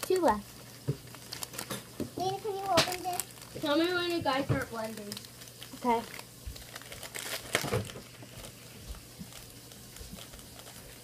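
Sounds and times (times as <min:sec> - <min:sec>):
snack packaging crinkling: 0:00.0 - 0:11.0.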